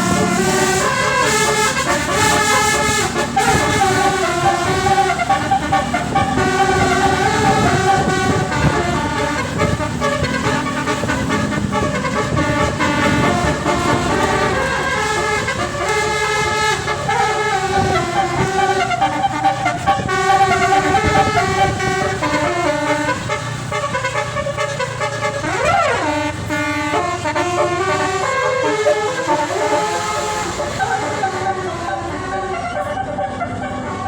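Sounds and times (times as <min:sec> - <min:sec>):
siren-like sweep: 0:00.0 - 0:23.2, 0:28.4 - 0:34.0
bus engine running: 0:00.0 - 0:34.0
multi-note bus horn tune: 0:00.0 - 0:34.0.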